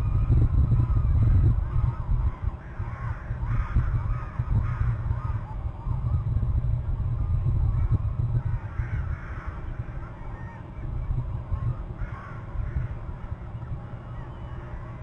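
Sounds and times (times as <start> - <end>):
steady low rumble: 0.0 - 15.0
birds harsh calls: 0.2 - 6.3, 7.1 - 15.0.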